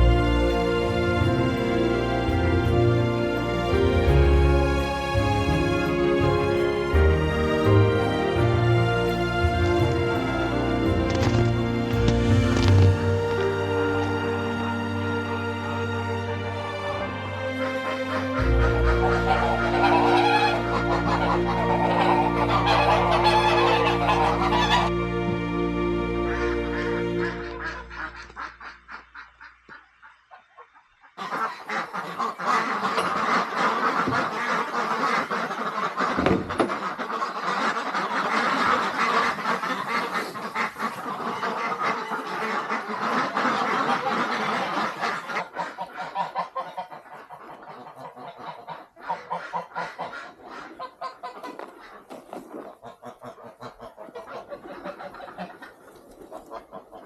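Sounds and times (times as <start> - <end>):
ducks and geese quacking and honking: 0.0 - 57.0.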